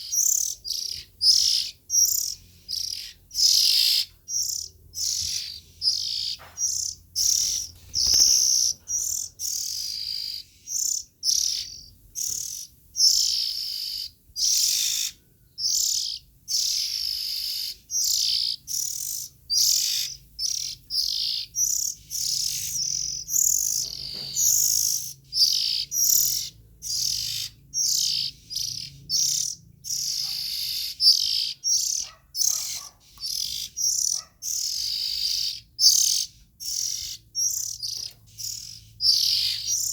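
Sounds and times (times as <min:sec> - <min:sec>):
songbird singing high phrases: 0:00.0 - 0:39.9.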